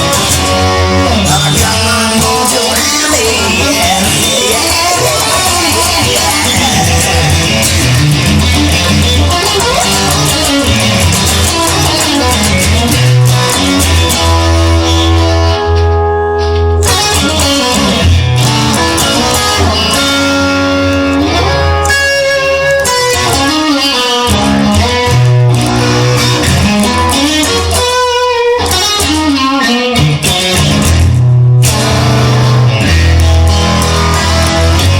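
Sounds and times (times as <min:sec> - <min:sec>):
bass line: 0:00.0 - 0:34.9
electric guitar playing: 0:00.0 - 0:34.9.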